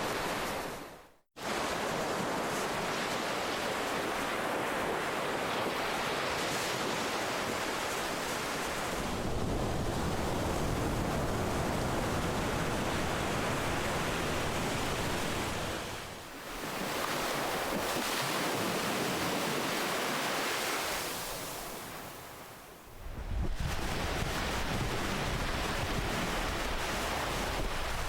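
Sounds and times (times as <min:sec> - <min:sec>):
ocean surf washing: 0:00.0 - 0:28.0.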